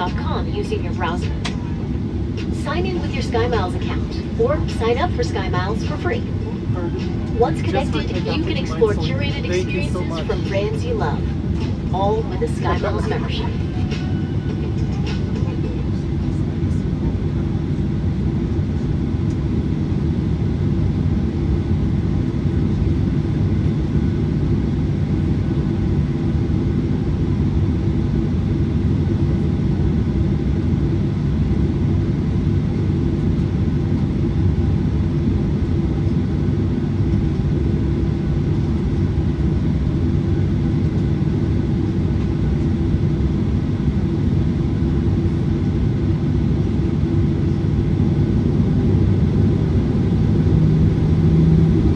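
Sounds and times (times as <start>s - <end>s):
airliner cabin rumble: 0.0s - 51.9s
steady humming tones: 0.0s - 51.9s.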